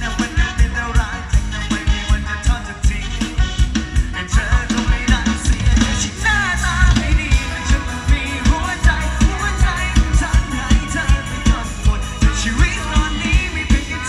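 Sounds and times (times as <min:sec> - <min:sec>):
kick drum and bass beat: 0:00.0 - 0:14.0.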